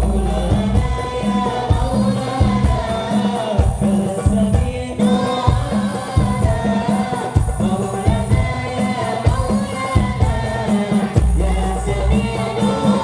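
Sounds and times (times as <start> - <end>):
frame drums beat: 0.0 - 13.0
men singing into microphones: 0.0 - 13.0.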